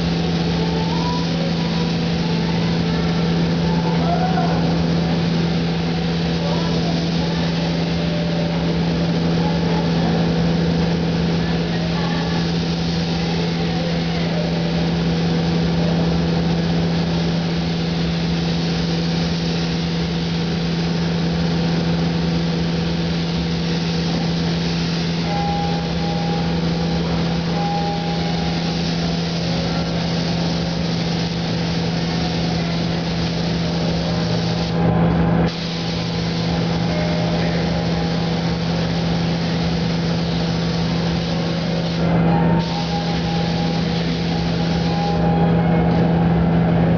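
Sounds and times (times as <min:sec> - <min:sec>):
spray gun hissing: 0:00.0 - 0:45.4.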